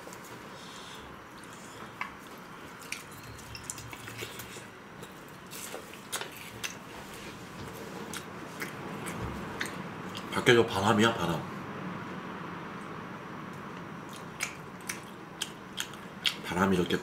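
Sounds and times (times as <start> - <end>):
low room hiss: 0.0 - 17.0.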